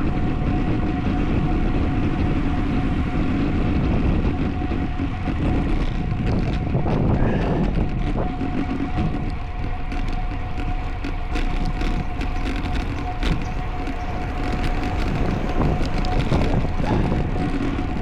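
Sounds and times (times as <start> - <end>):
bike road noise: 0.0 - 18.0
thin steady hum: 0.0 - 18.0
wind rushing over microphone: 0.0 - 18.0.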